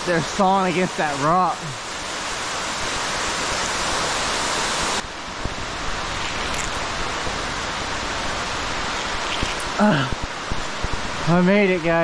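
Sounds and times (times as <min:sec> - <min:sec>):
waterfall pouring in a cave: 0:00.0 - 0:12.0.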